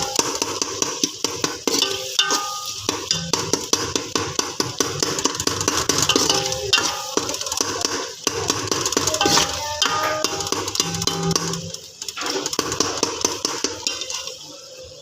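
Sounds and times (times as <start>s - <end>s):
music with fast percussive beat: 0.0s - 14.2s.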